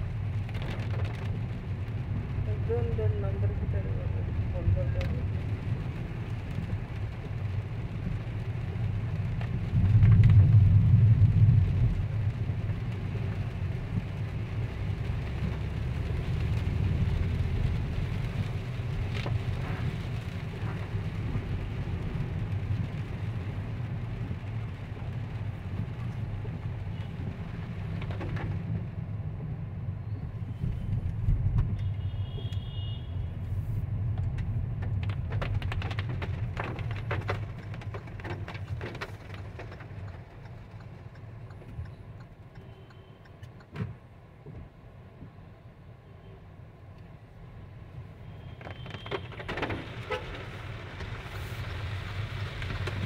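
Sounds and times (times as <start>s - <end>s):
engine and tyres on wet road: 0.0s - 53.0s.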